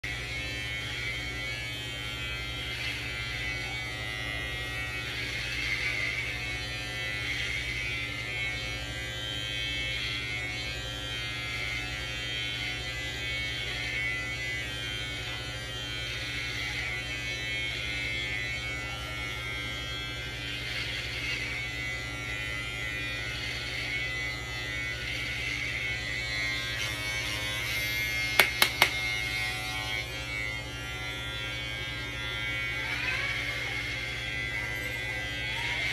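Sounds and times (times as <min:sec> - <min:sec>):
electric hair clippers buzzing: 0:00.0 - 0:35.9.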